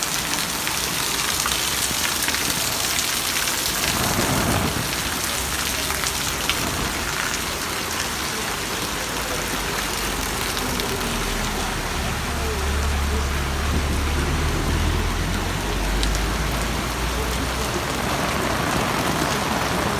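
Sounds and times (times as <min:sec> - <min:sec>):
heavy rain on hard surfaces: 0:00.0 - 0:19.9.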